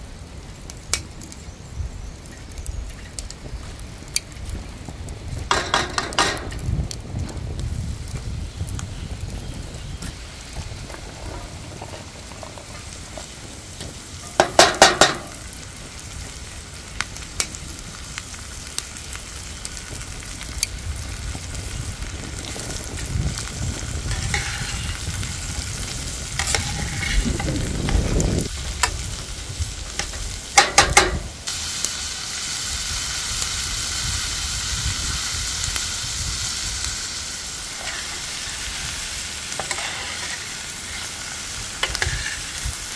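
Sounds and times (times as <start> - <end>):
food sizzling: 0.0 - 42.9.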